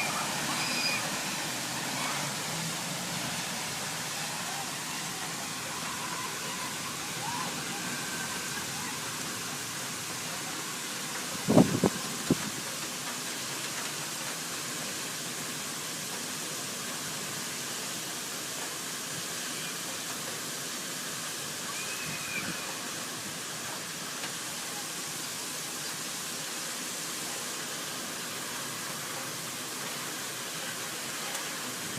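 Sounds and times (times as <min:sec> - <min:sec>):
rushing floodwater: 0:00.0 - 0:31.9.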